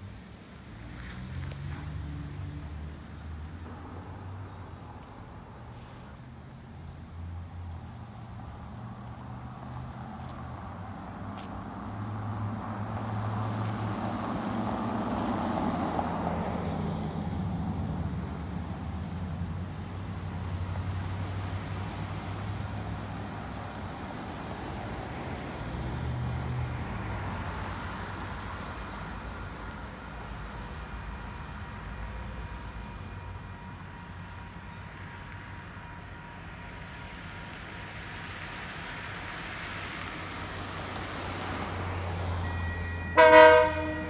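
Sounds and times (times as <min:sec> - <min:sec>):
vehicles passing: 0:00.0 - 0:44.0.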